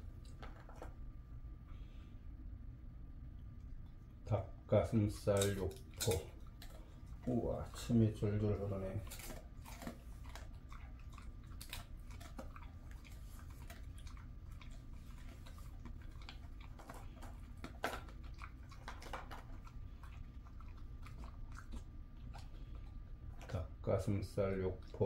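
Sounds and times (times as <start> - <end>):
dog chewing jerky: 0.1 - 1.0, 4.9 - 25.0.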